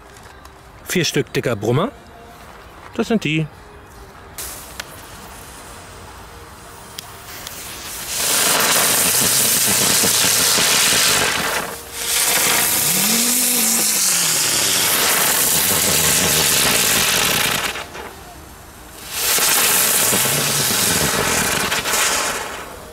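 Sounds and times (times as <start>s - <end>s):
ground spinner fireworks hissing: 4.4s - 22.9s.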